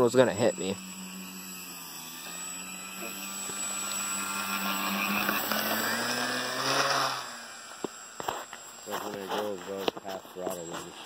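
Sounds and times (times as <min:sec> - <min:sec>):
model plane motor whine: 0:00.0 - 0:11.0.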